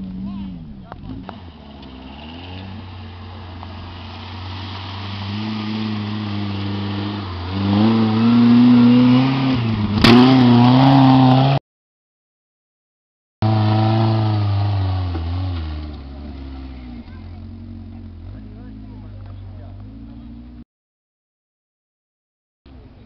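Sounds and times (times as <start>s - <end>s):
off-road vehicle engine revving: 0.0s - 11.6s, 13.4s - 20.6s.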